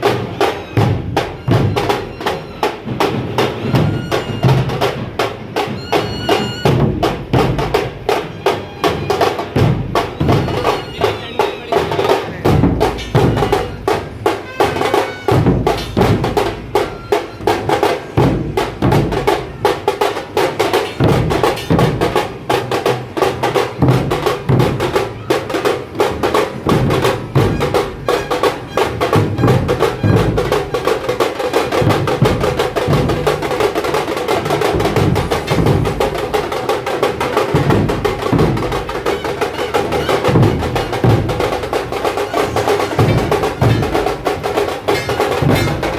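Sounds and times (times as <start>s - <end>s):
drum ensemble fast rhythm: 0.0s - 45.9s.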